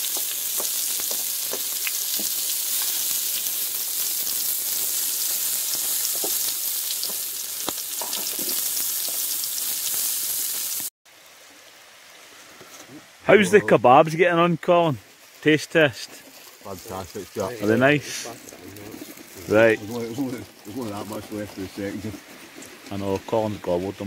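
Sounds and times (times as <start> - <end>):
food sizzling on metal tray: 0.0 - 10.9, 14.8 - 24.0.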